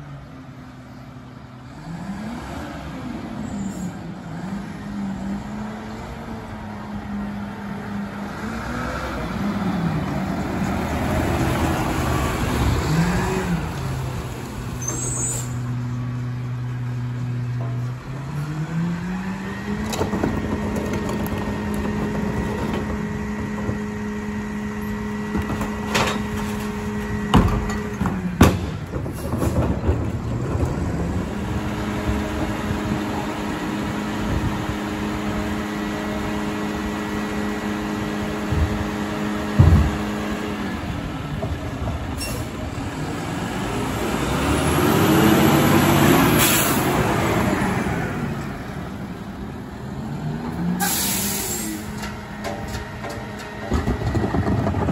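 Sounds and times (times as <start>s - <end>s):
garbage truck engine revving: 1.6s - 54.9s.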